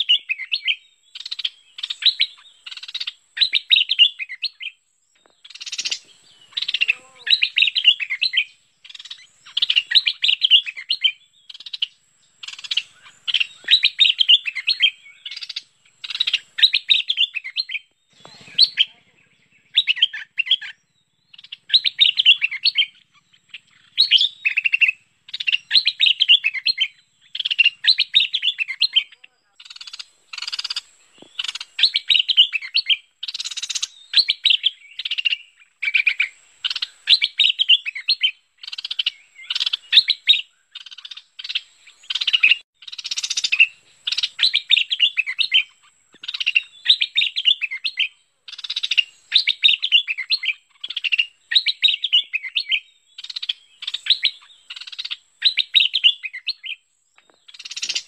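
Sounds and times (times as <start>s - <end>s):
bird singing warbled phrases: 0.0s - 58.0s.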